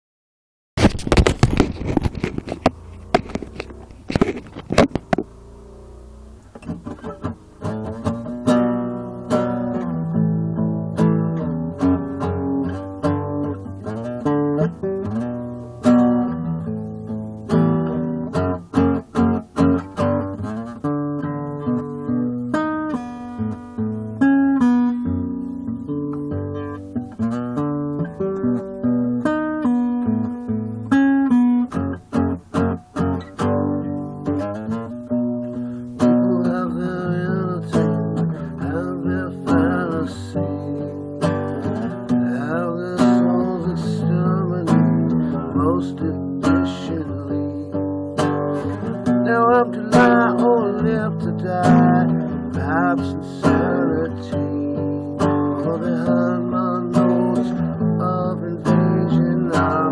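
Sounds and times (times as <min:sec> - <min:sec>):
acoustic guitar playing: 0:00.8 - 0:59.9.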